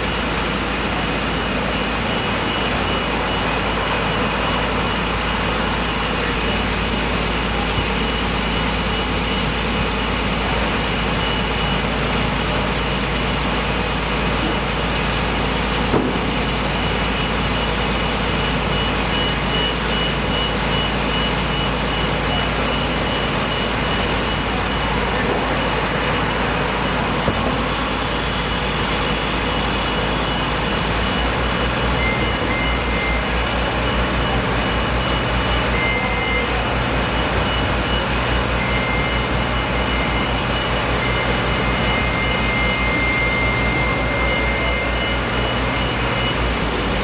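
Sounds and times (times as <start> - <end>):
mechanical drone with whine: 0.0 - 47.0.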